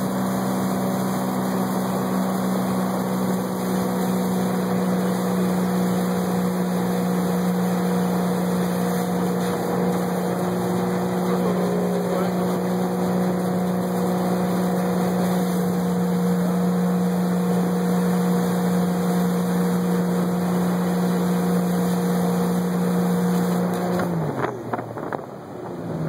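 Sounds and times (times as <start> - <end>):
water spray rushing: 0.0 - 24.4
boat engine running: 0.0 - 26.0
wind: 0.0 - 26.0.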